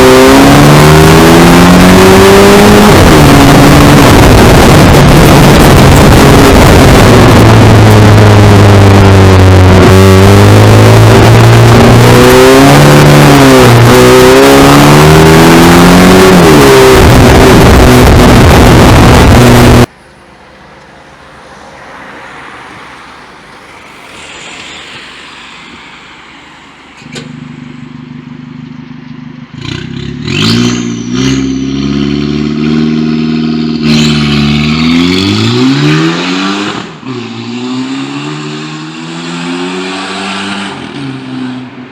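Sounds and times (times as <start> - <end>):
car engine revving through exhaust: 0.0 - 19.9, 23.4 - 41.9.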